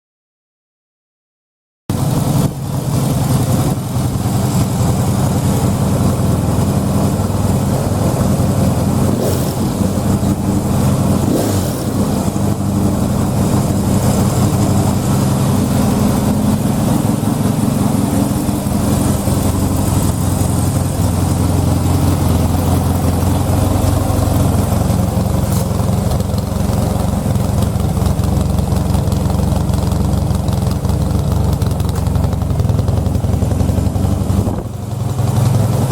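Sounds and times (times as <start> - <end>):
motorcycle engine idling: 1.9 - 35.9.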